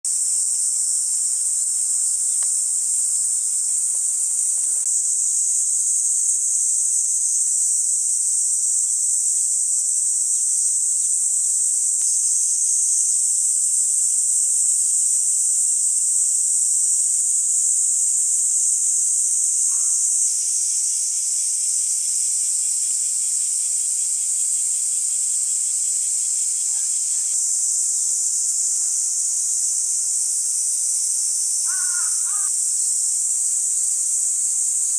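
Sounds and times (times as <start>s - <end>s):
faint pulsing insect trill: 0.1s - 34.9s
high-pitched insect chorus: 0.1s - 34.9s.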